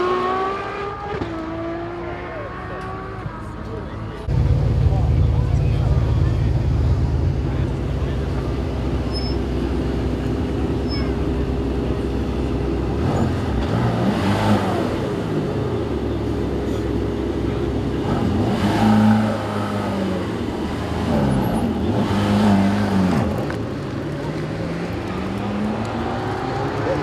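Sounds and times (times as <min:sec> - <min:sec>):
car engines accelerating hard: 0:00.0 - 0:27.0
steady engine drone: 0:03.4 - 0:27.0.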